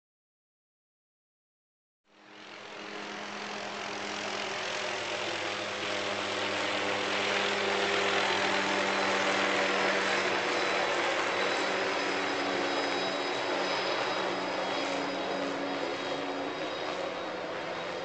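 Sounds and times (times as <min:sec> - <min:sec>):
helicopter engine whine: 0:02.1 - 0:18.0
helicopter rotor noise: 0:02.1 - 0:18.0.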